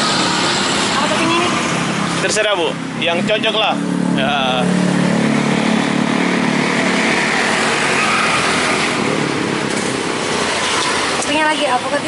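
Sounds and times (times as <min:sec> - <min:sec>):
motorcycle engine hum: 0:00.0 - 0:12.0
passing vehicles rushing: 0:00.0 - 0:12.0.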